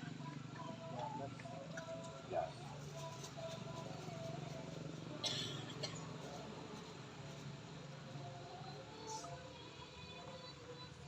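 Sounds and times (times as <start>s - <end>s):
ambient background noise: 0.0s - 11.0s
faint music: 0.0s - 11.0s.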